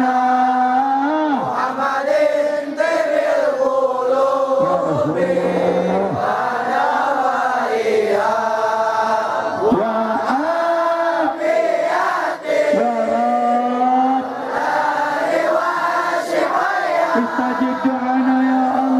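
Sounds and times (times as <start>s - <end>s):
voices chanting in long notes: 0.0s - 18.9s.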